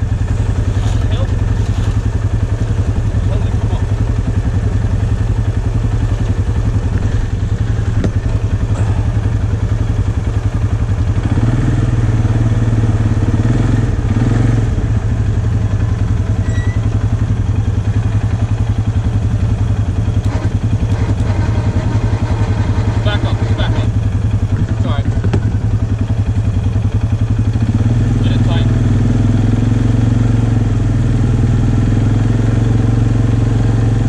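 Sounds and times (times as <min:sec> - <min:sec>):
atv engine idling: 0:00.0 - 0:34.0.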